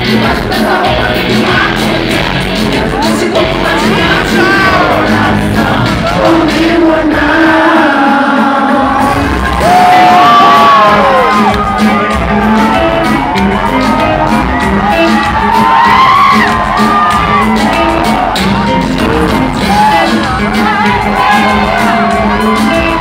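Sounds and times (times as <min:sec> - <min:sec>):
live band playing pop dance music: 0:00.0 - 0:23.0
crowd shouting and whooping: 0:00.1 - 0:06.9, 0:08.6 - 0:23.0.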